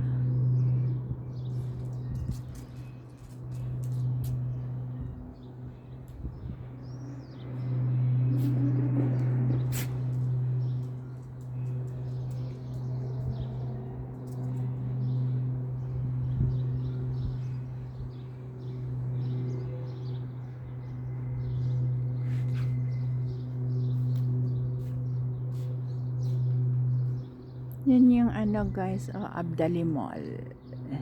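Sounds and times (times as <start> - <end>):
low mechanical hum: 0.0 - 31.0
small birds chirping: 5.4 - 31.0.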